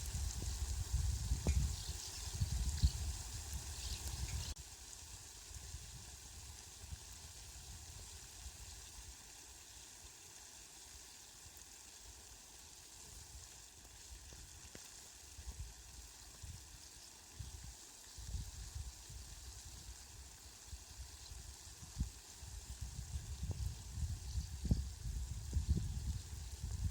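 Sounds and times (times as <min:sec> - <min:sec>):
rain hiss: 0:00.0 - 0:26.9.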